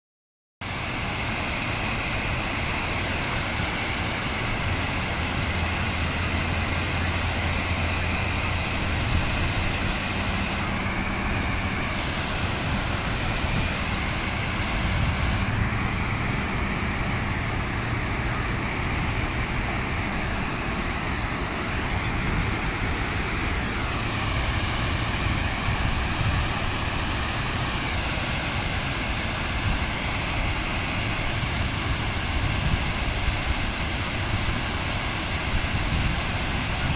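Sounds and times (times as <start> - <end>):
water rushing over spillway: 0.6 - 36.9.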